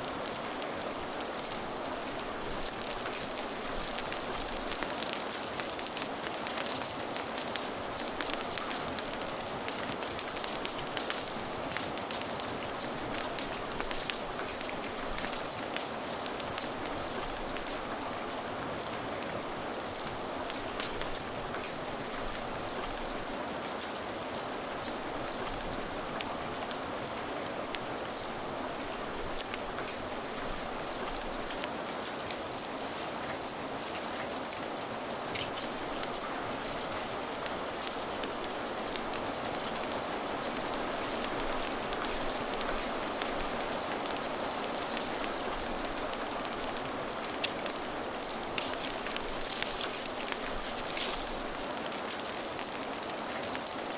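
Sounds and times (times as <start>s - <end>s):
fire crackling: 0.0s - 53.9s
steady rain hiss: 0.0s - 53.9s.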